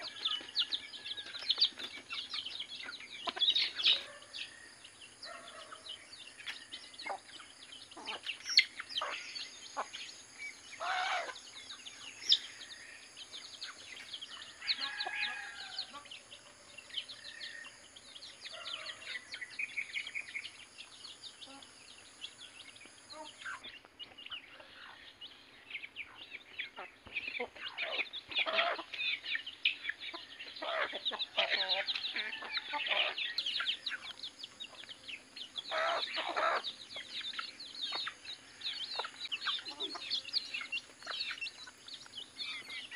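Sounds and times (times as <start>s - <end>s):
chickens clucking: 0.0s - 42.9s
chicks chirping and peeping: 0.0s - 42.9s.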